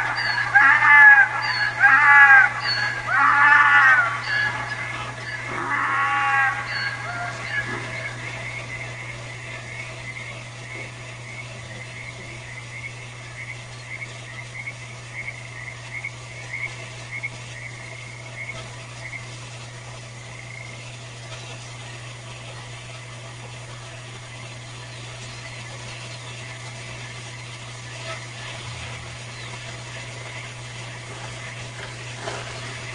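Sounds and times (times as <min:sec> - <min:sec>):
frogs croaking: 0:00.0 - 0:32.9
steady low hum: 0:00.0 - 0:32.9.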